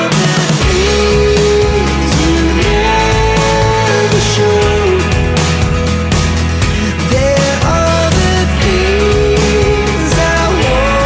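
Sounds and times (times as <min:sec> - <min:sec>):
grungy rock music: 0:00.0 - 0:11.0.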